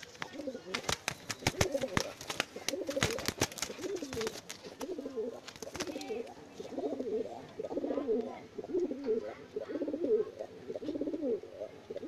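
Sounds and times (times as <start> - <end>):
pigeons cooing: 1.4 - 12.0.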